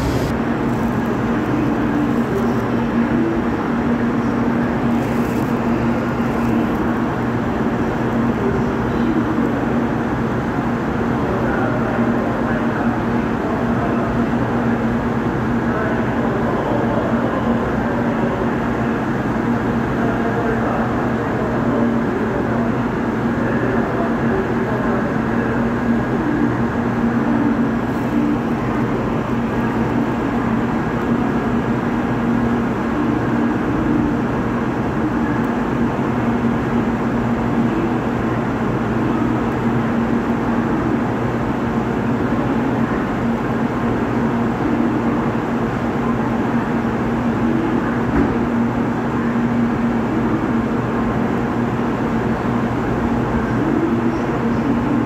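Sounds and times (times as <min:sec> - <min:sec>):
train equipment humming: 0:00.0 - 0:55.0.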